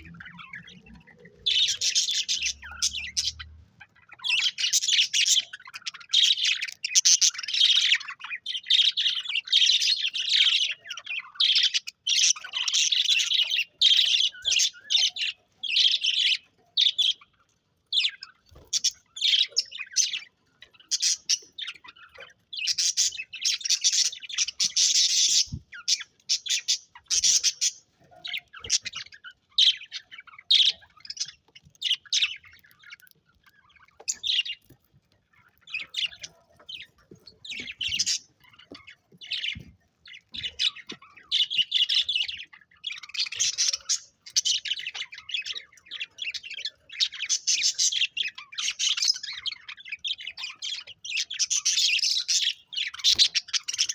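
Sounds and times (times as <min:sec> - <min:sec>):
budgerigars chattering and chirping: 0:00.0 - 0:53.9.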